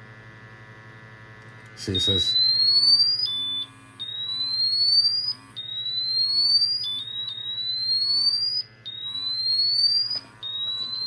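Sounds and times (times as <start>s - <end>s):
gas monitor alarm rising tone: 1.8s - 11.0s
lower repeating beep: 2.0s - 11.0s.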